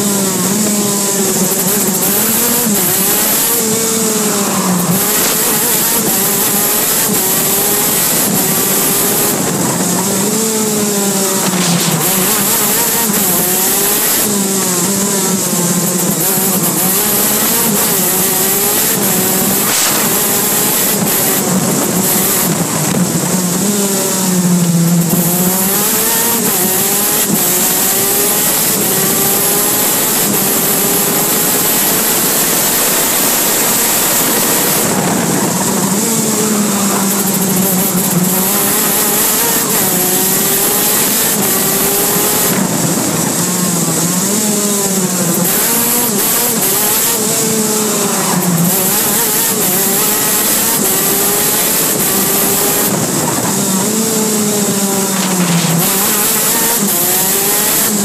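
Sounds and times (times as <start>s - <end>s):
kart engine at racing speed: 0.0s - 58.0s.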